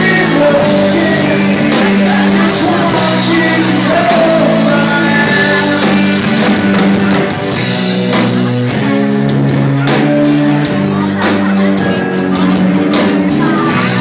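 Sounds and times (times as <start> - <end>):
rock band playing loudly: 0.0 - 14.0.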